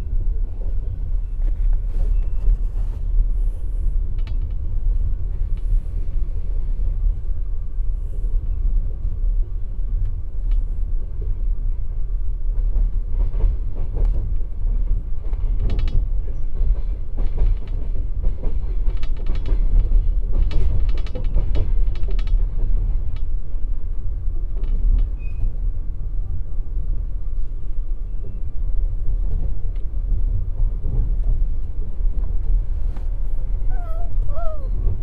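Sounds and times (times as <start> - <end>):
train car low rumble: 0.0 - 35.0.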